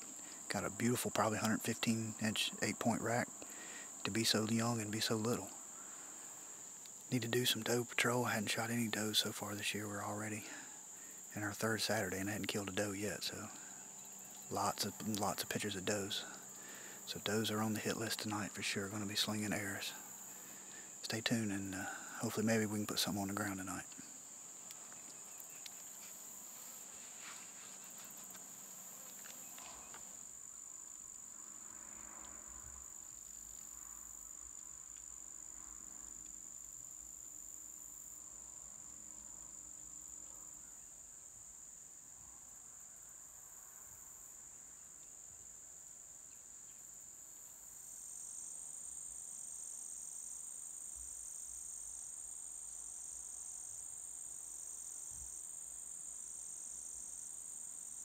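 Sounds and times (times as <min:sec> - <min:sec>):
higher pulsing insect trill: 0:00.0 - 0:58.0
insects trilling: 0:00.0 - 0:58.0.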